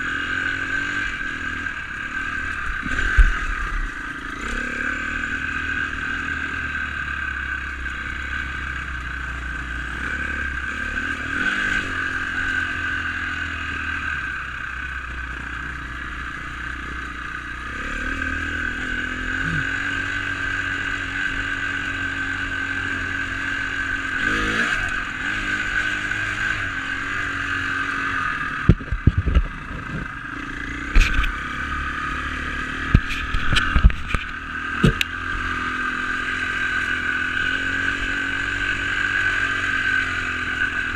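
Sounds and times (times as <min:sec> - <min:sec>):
dirt bike engine running: 0:00.0 - 0:40.9.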